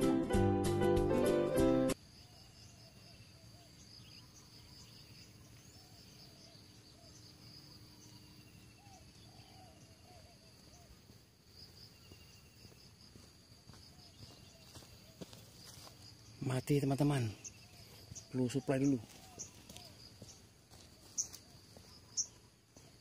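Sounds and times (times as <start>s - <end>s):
insects trilling: 2.0s - 23.0s.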